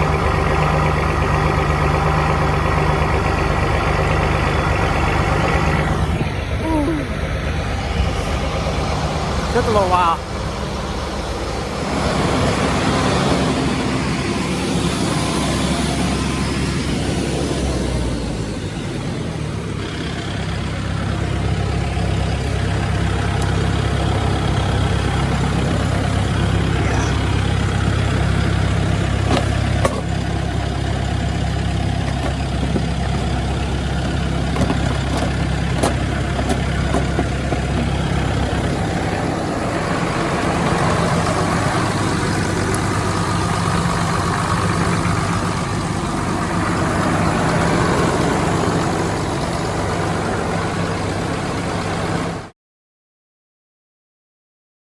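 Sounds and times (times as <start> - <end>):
diesel engine idling: 0.0 - 52.5.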